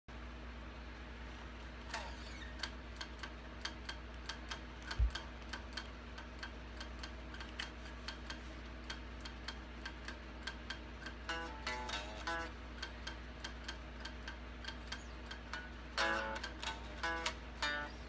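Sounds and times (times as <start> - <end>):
metronome clicking: 1.9 - 18.0.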